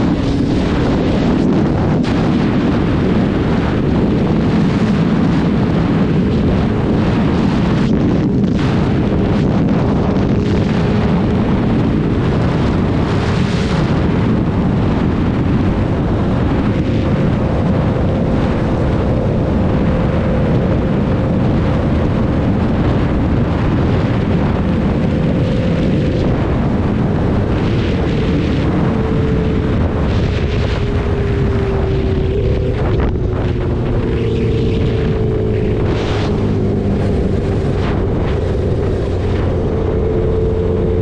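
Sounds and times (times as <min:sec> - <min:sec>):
motorcycle engine drone: 0:00.0 - 0:41.0
wind rumble on microphone: 0:00.0 - 0:41.0.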